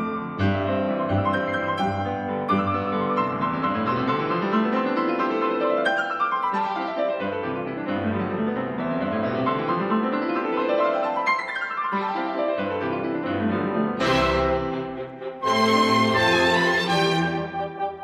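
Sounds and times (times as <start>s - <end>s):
piano music with quick runs: 0.0s - 18.0s.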